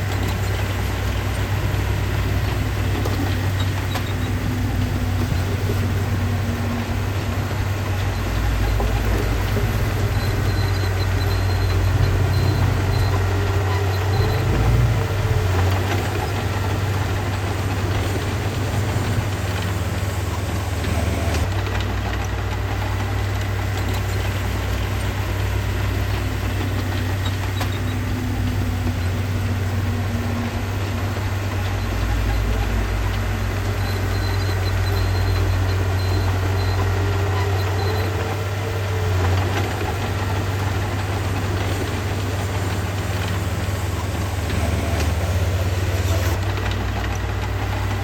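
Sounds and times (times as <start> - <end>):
diesel engine droning: 0.0 - 48.0.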